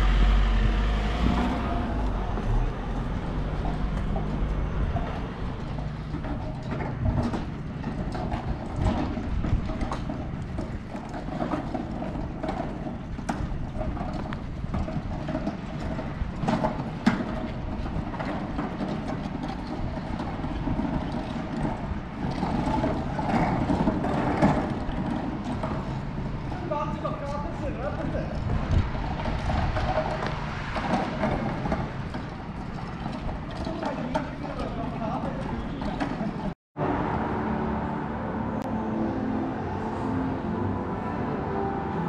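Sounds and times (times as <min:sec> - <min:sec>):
low vehicle rumble: 0:00.0 - 0:42.0
traffic: 0:00.0 - 0:42.0.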